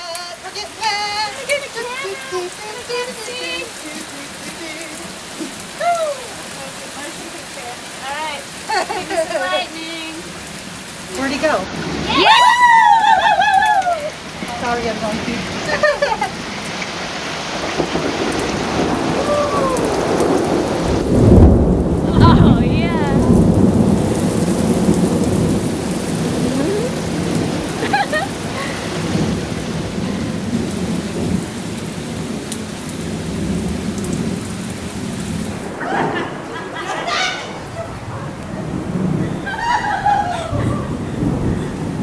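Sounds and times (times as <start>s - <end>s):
heavy rain on wooden deck: 0.0s - 42.0s
thunder rumbling: 0.0s - 42.0s.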